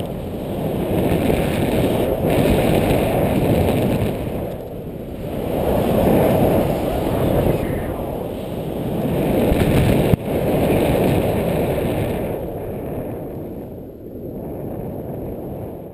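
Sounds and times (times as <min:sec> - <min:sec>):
wind roaring over microphone: 0:00.0 - 0:15.9.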